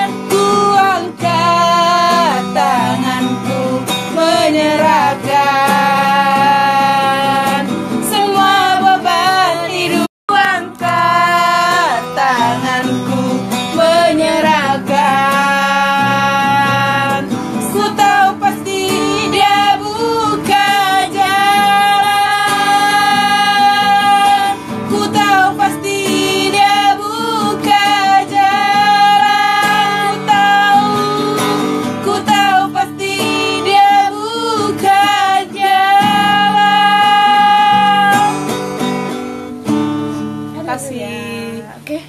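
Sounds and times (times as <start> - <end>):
women singing held notes: 0.0 - 38.5
acoustic guitar: 0.0 - 42.0.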